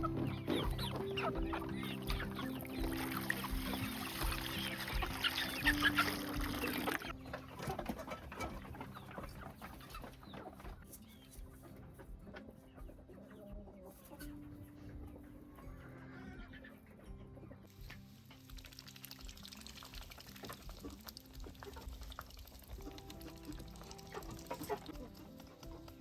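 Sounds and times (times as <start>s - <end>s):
chickens clucking: 0.0s - 26.0s
soft background music: 0.0s - 26.0s.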